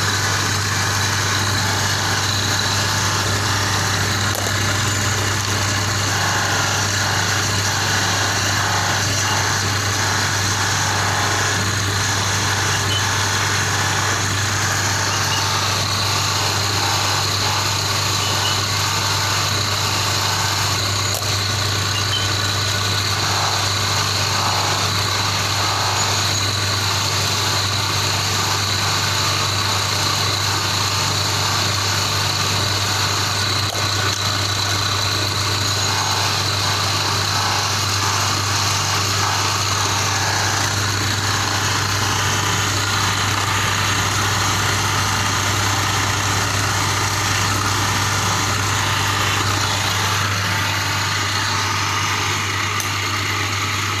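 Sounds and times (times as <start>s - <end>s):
polishing spindle motor hum: 0.0s - 54.0s.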